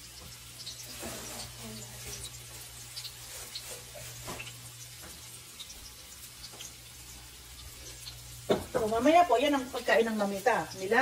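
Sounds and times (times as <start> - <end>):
onion and garlic sizzling: 0.0 - 11.0.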